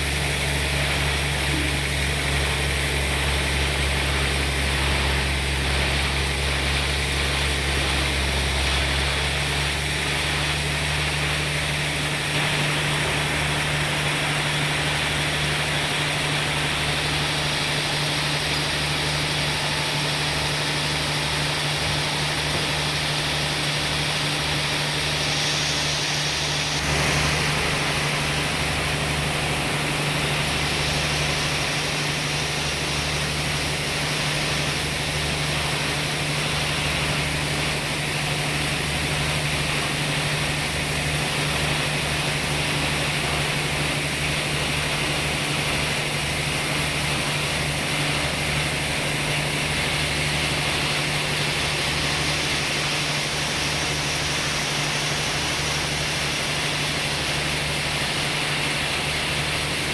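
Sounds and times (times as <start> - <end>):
sawmill engine hum: 0.0 - 59.9.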